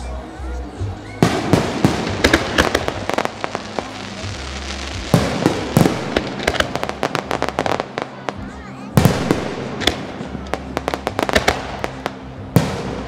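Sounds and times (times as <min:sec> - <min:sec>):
fireworks bangs and crackles: 0:00.9 - 0:13.0.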